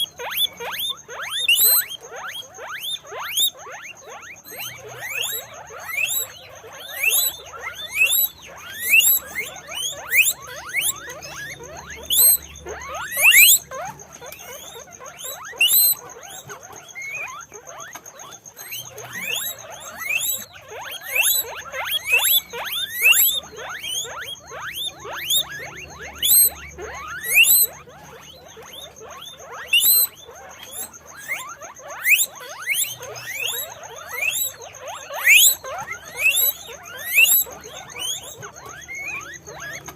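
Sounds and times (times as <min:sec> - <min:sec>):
guinea pigs wheeking: 0:00.0 - 0:39.9.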